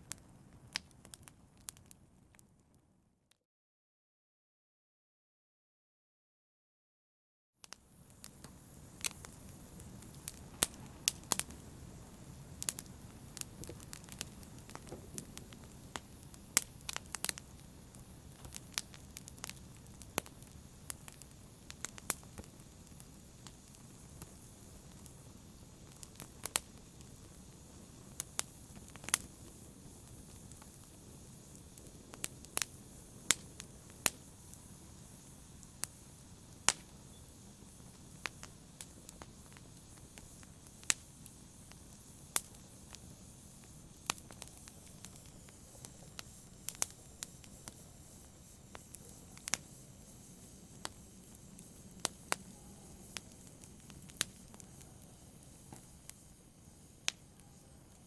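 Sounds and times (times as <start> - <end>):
fire crackling and popping: 0.0 - 2.8, 7.6 - 58.0
low rush of flames: 7.7 - 58.0.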